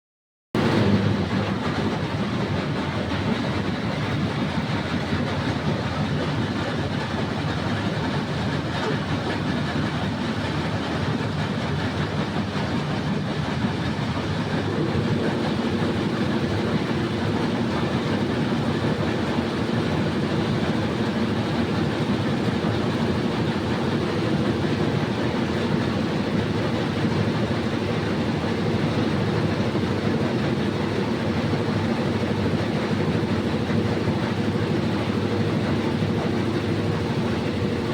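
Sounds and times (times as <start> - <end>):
excavator engine running: 0.6 - 37.9.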